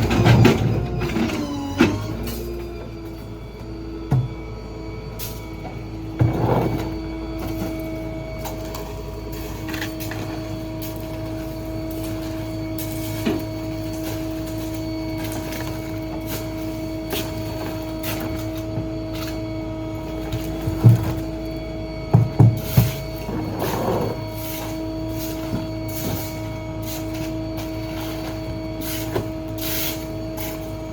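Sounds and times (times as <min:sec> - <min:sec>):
garbage truck engine whine: 0:00.0 - 0:30.9.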